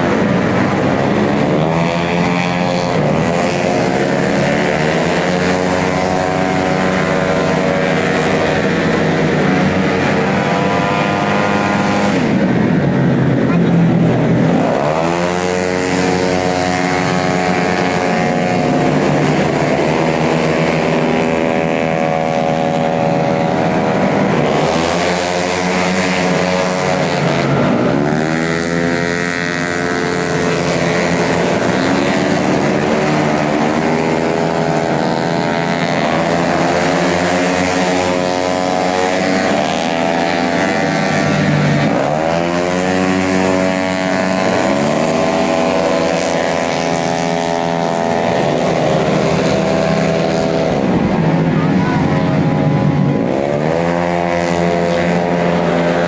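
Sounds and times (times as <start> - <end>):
scooter engines revving past: 0.0 - 56.0.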